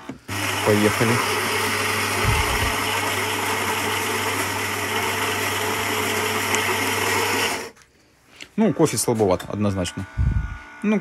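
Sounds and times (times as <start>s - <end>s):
coffee grinder whirring: 0.0s - 7.8s, 9.3s - 11.0s.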